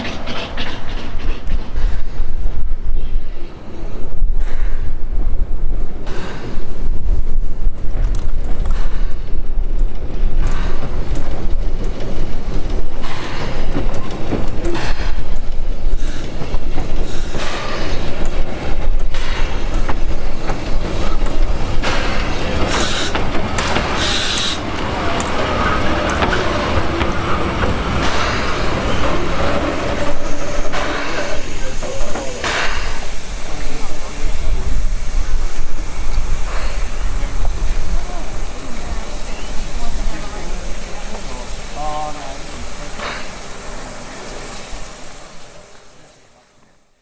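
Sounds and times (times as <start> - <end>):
train wheels clicking over rail joints: 0.0 - 3.3, 4.0 - 46.9
railcar rumble: 0.0 - 47.0
steam hisses: 3.2 - 47.0.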